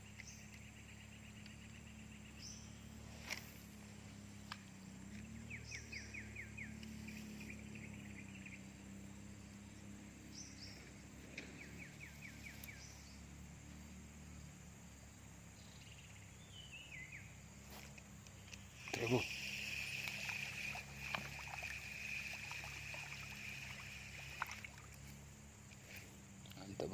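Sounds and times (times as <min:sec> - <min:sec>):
small bird chirping: 0:00.0 - 0:08.8, 0:09.4 - 0:26.9
steady low hum: 0:00.0 - 0:26.9.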